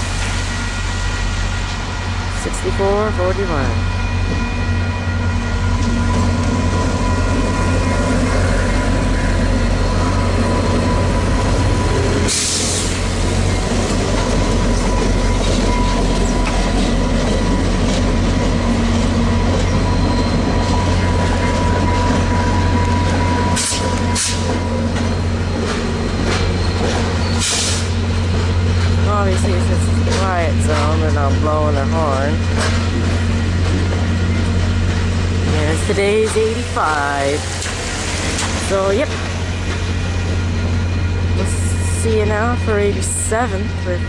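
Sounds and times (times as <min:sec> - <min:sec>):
passing train rumble: 0:00.0 - 0:44.0.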